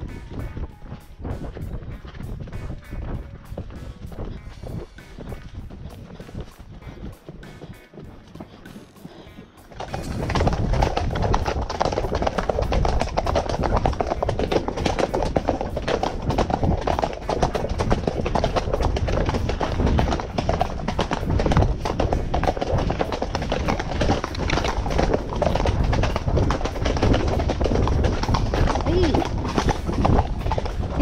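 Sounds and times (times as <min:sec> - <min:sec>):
horse hooves clip-clopping on dirt: 0:00.0 - 0:31.0
music: 0:00.0 - 0:31.0.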